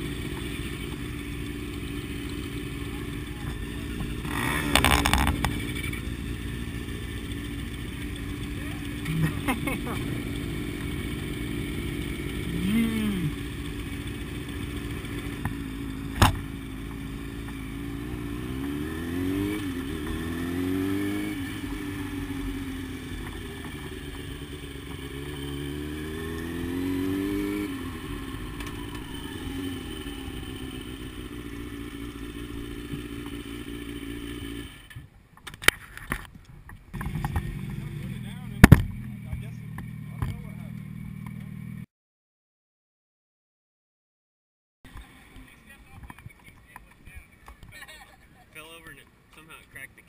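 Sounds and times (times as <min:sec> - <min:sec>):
motorcycle engine idling and revving: 0:00.0 - 0:41.9, 0:44.9 - 0:50.0.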